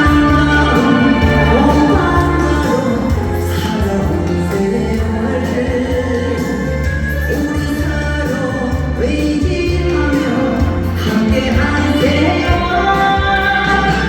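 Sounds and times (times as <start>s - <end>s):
music with steady bass: 0.0s - 14.0s
person singing pop song live: 0.0s - 14.0s.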